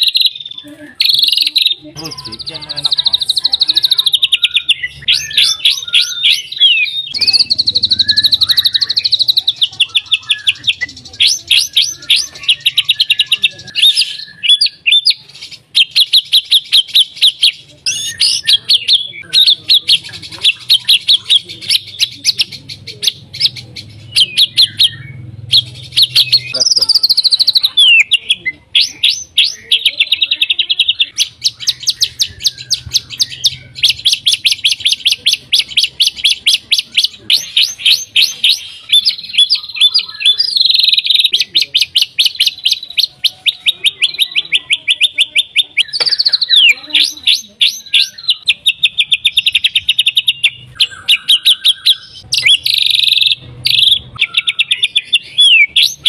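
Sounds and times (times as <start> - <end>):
bird rattling song: 0.0 - 56.0.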